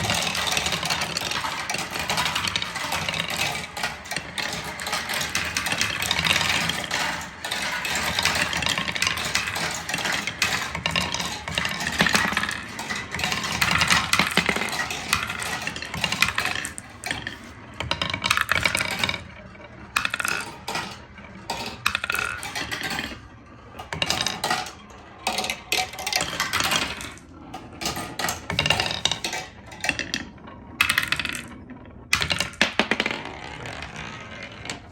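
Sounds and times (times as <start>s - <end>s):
marbles rattling down wooden run: 0.0s - 34.9s.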